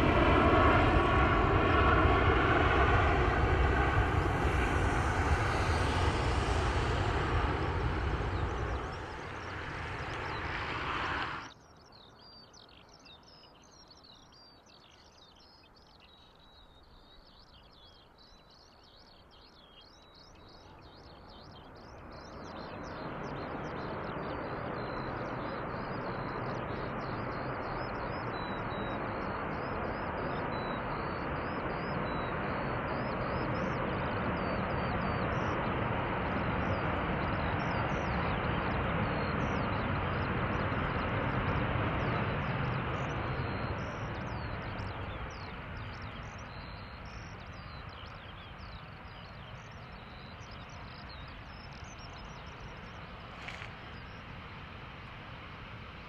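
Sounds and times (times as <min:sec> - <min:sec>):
jet airliner engine noise: 0:00.0 - 0:11.6, 0:19.5 - 0:56.0
small birds chirping: 0:00.0 - 0:55.4.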